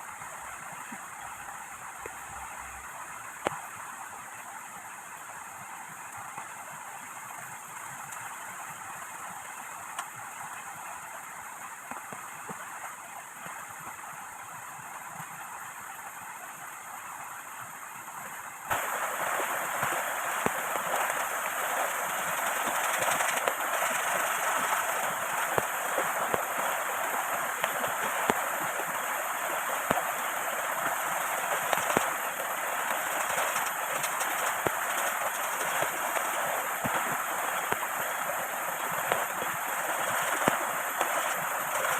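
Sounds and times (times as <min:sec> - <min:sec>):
flowing river water: 0:00.0 - 0:41.9
heavy rain: 0:00.0 - 0:41.9.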